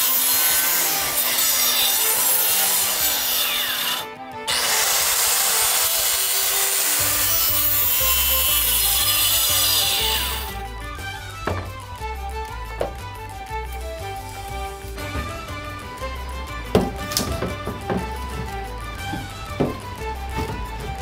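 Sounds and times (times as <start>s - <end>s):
circular saw cutting plywood: 0.0s - 11.8s, 13.7s - 21.0s.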